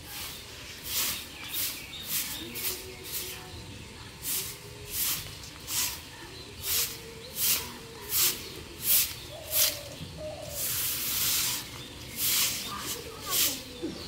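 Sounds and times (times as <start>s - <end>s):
broom sweeping on concrete: 0.0s - 14.0s.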